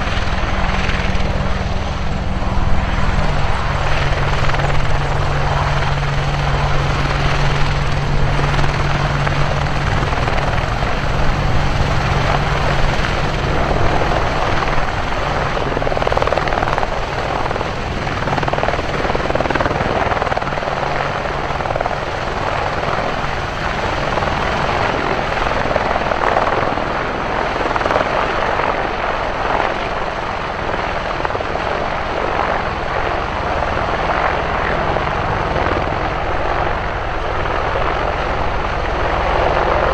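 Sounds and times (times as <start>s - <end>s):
helicopter rotor and turbine noise: 0.0s - 39.9s.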